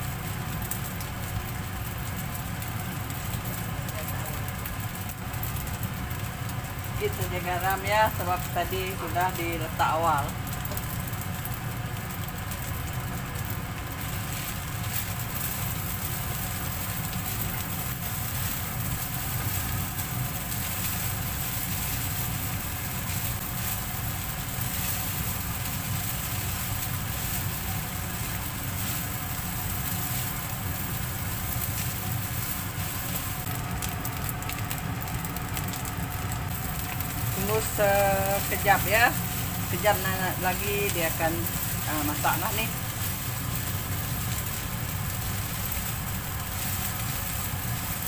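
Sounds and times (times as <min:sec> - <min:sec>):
rice sizzling in a wok: 0:00.0 - 0:48.0.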